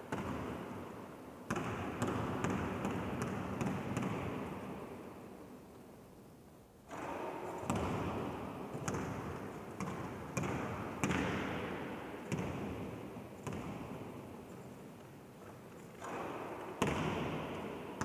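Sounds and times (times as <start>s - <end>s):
basketball bouncing in a hall: 0.0s - 5.4s, 6.8s - 18.0s.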